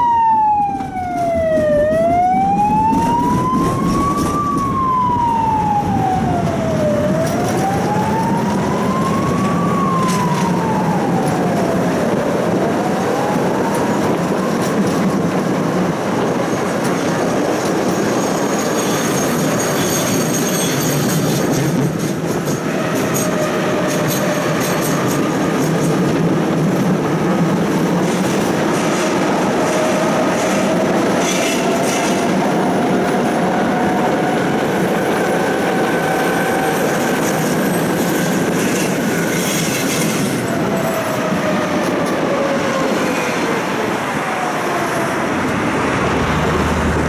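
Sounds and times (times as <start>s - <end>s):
emergency siren wailing: 0.0s - 16.6s, 22.5s - 47.0s
tram rumbling on rails: 0.0s - 47.0s.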